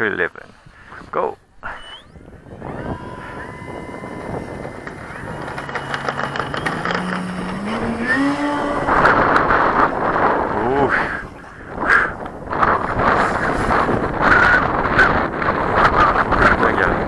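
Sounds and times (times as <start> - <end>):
rush of model plane climbing: 0.8 - 17.0
electric motor and propeller whine: 1.6 - 16.9.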